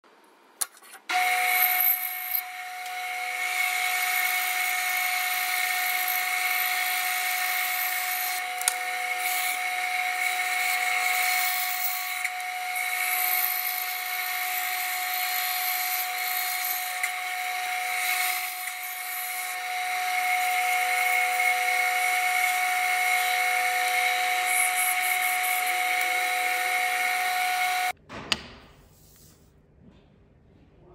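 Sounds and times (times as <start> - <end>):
bandsaw whining cutting wood: 1.1 - 28.0.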